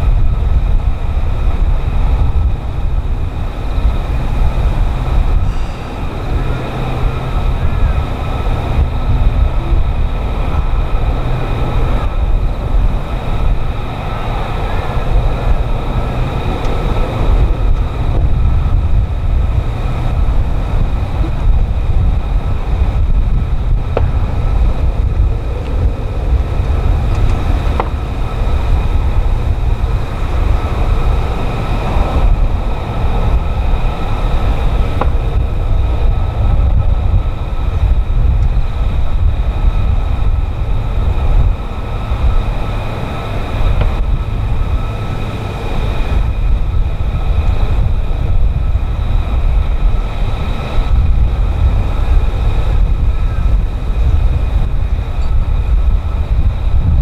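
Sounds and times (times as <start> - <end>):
jet engine rumble and whine: 0.0 - 57.0.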